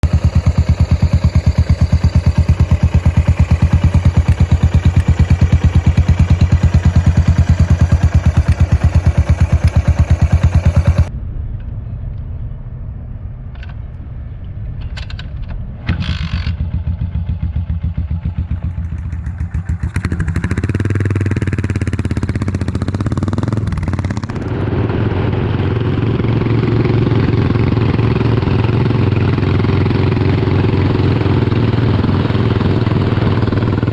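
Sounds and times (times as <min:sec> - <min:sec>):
single-cylinder motorcycle exhaust: 0:00.0 - 0:11.1, 0:15.8 - 0:33.9.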